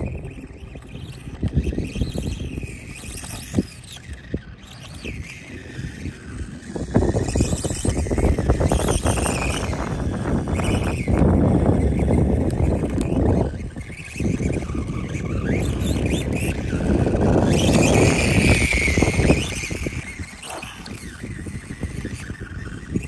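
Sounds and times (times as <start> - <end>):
electric motor whining: 0.0 - 23.0
gusty wind on microphone: 0.0 - 23.0.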